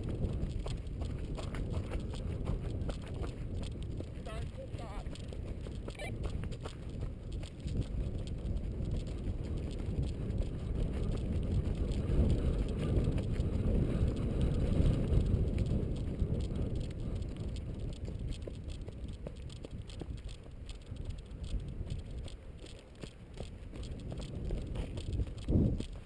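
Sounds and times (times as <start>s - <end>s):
footsteps on gravel: 0.0s - 26.0s
wind rumbling on microphone: 0.0s - 26.0s.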